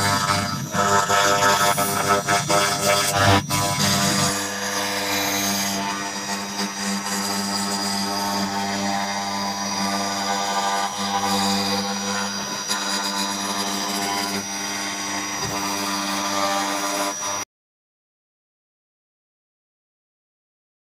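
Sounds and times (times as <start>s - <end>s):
end mill cutting plywood: 0.0s - 17.4s
router spindle whine: 0.0s - 17.4s.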